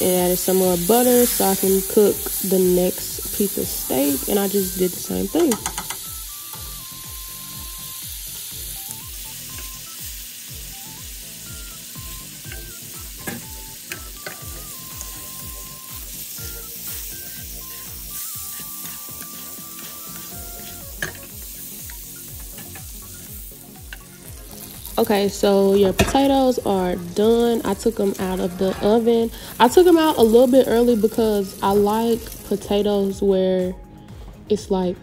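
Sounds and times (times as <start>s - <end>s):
butter sizzling in a frying pan: 0.0s - 33.2s.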